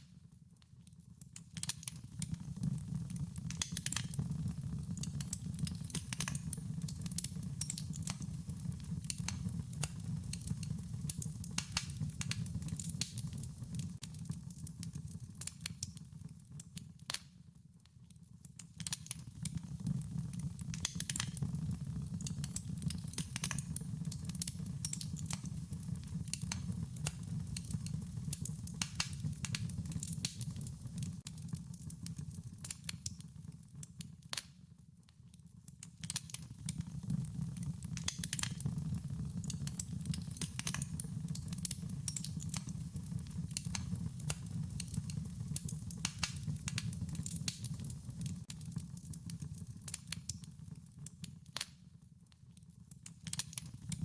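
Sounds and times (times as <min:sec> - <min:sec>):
wood fire crackling: 0:00.5 - 0:17.3, 0:18.2 - 0:34.5, 0:35.6 - 0:52.0, 0:52.8 - 0:54.0.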